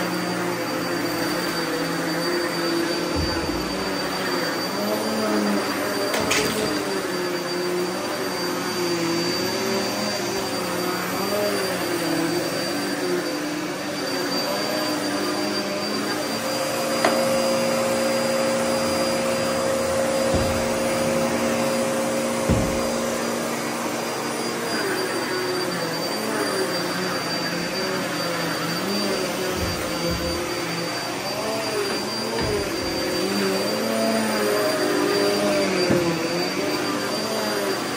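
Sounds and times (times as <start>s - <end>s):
vacuum cleaner running over carpet: 0.0s - 37.9s.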